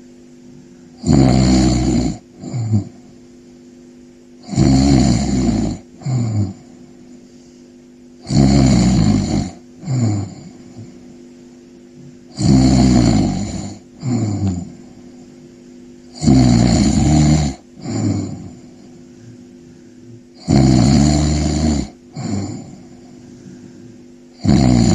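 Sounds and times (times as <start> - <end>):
person snoring: 0.7 - 3.2, 4.4 - 7.0, 8.2 - 11.2, 12.1 - 15.4, 16.1 - 24.9.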